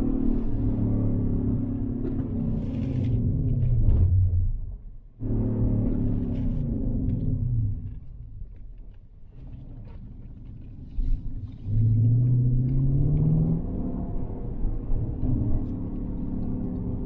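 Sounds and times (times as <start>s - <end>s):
car engine accelerating: 0.0s - 8.6s, 9.8s - 17.0s.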